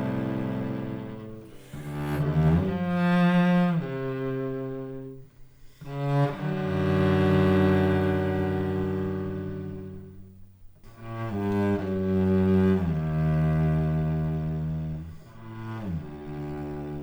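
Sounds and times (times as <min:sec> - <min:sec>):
cello playing long bowed notes: 0:00.0 - 0:17.0.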